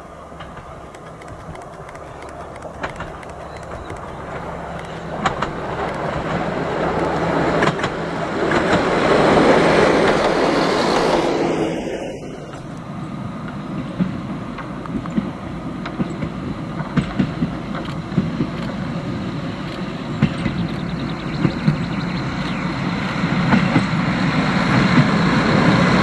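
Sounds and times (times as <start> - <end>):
diesel railcar engine running: 0.0 - 26.0
wheels clicking over rail joints: 0.3 - 11.5, 12.2 - 26.0.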